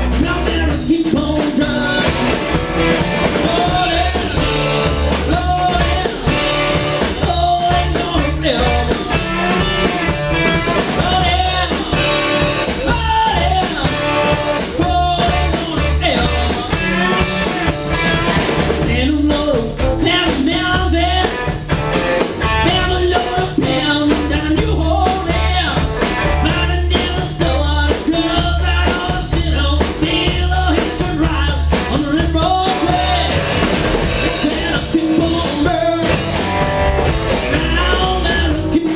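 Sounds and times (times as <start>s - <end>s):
blues-rock band music: 0.0s - 38.9s.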